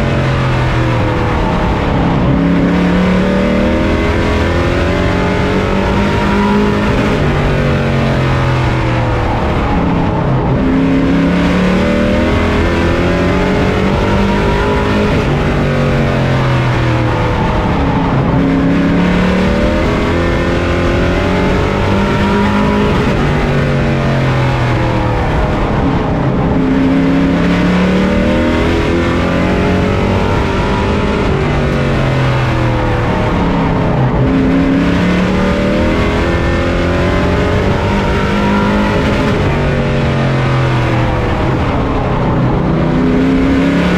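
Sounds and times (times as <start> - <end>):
race truck engine: 0.0 - 43.9
road and wind noise: 0.0 - 43.9.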